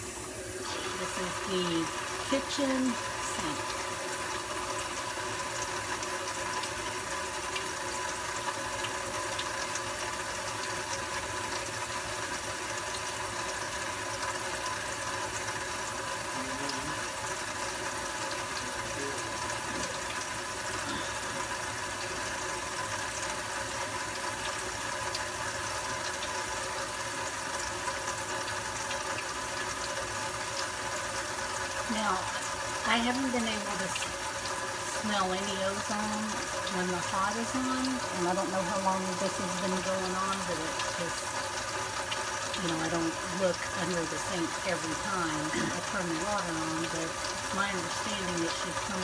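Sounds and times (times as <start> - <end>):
water running from faucet: 0.0 - 49.0.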